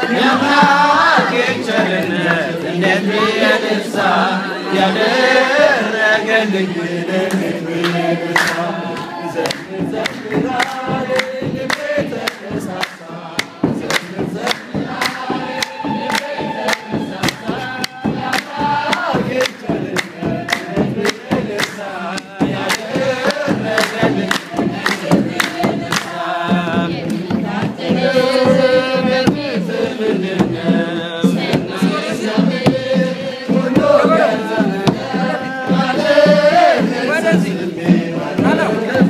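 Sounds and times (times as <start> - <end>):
congregation singing a hymn: 0.0 - 39.0
rhythmic hand clapping: 0.0 - 39.0.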